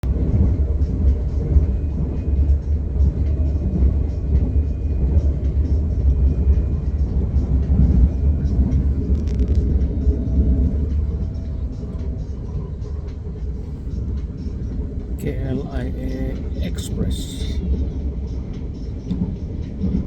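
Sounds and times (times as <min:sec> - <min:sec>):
rail and cabin noise: 0:00.0 - 0:20.0
train deep rumble: 0:00.0 - 0:20.0.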